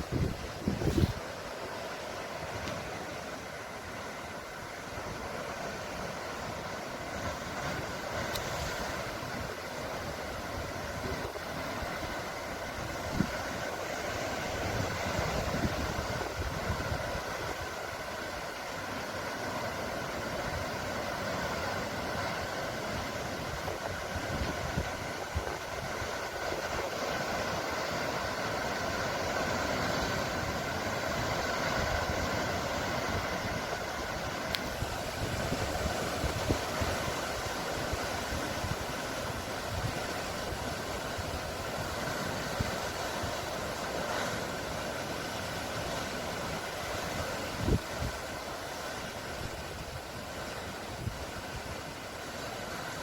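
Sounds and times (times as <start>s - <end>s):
rushing sea: 0.0s - 53.0s.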